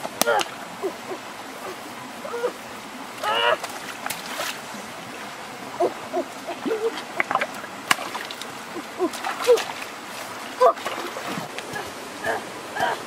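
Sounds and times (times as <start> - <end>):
stream water gurgling and sloshing: 0.0 - 13.0.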